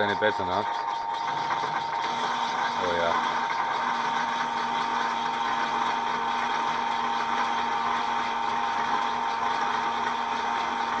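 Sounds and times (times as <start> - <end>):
lathe whining while cutting: 0.0 - 11.0.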